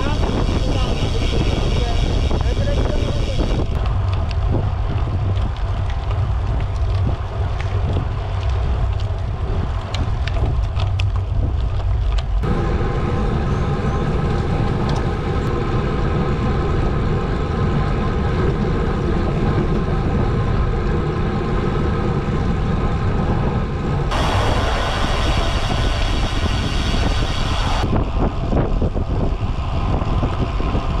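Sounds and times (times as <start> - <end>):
bicycle tyre and road noise: 0.0 - 31.0
wind buffeting microphone: 0.0 - 31.0.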